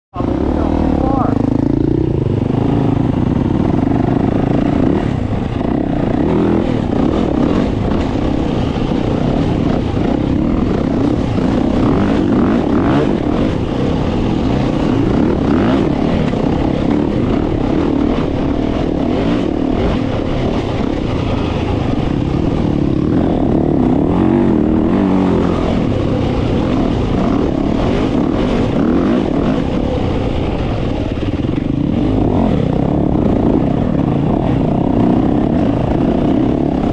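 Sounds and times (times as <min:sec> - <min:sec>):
dirt bike engine running: 0:00.1 - 0:36.9.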